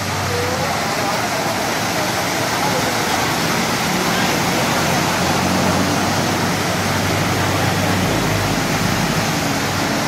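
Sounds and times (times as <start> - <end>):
bus engine hum: 0.0 - 10.0
wheels throwing water spray: 0.0 - 10.0.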